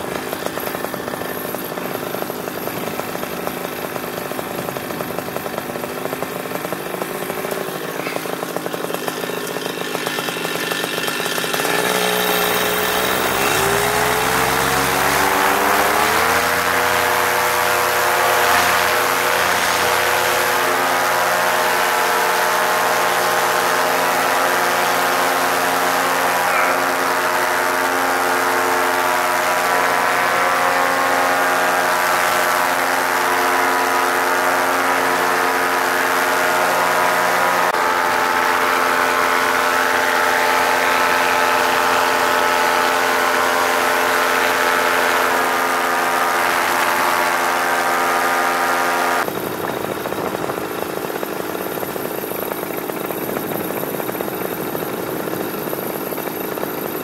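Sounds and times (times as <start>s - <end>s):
paramotor engine whine: 0.0s - 57.0s.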